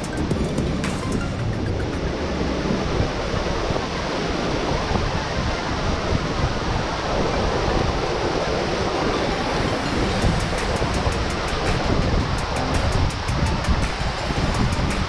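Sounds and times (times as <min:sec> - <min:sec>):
river water rushing over boulders: 0:00.0 - 0:15.0.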